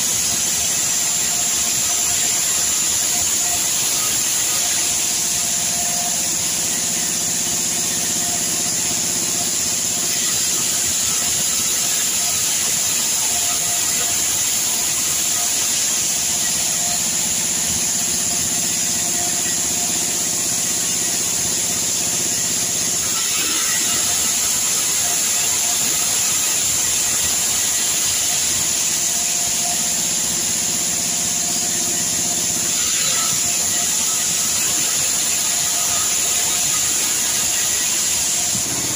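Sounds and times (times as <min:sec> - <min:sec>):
band saw blade hissing: 0:00.0 - 0:38.9.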